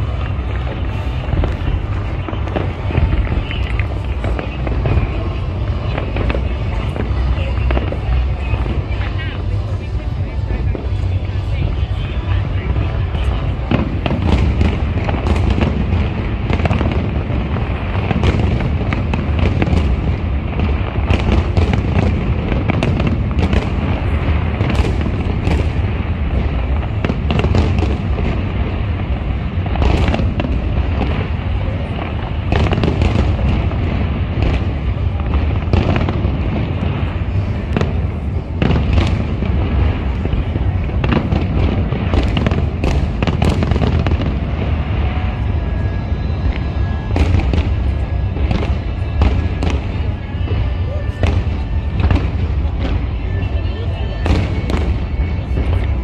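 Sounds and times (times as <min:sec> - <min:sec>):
fireworks bangs and crackles: 0:00.0 - 0:56.0
steady low rumble: 0:00.0 - 0:56.0.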